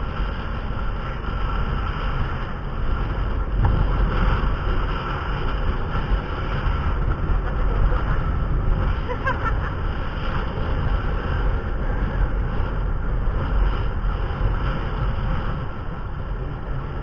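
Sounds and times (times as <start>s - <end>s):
moving vehicle rumble: 0.0s - 17.0s
wind buffeting microphone: 0.0s - 17.0s.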